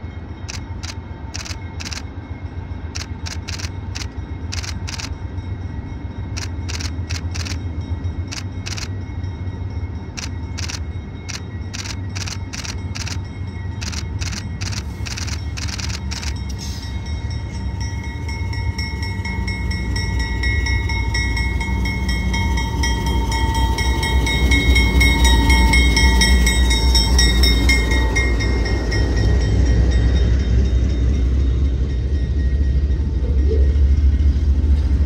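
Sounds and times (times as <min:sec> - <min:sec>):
train rumbling by: 0:00.0 - 0:35.0.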